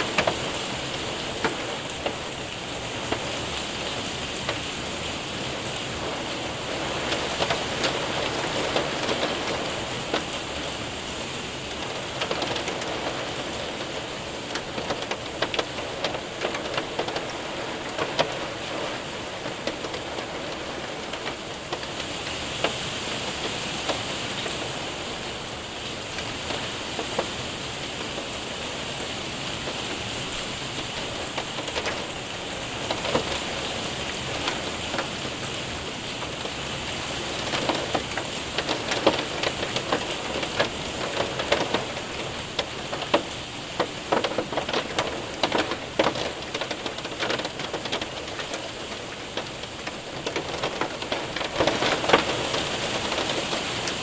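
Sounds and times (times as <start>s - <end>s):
hailstones ticking: 0.0s - 54.0s
rain pattering on window: 0.0s - 54.0s.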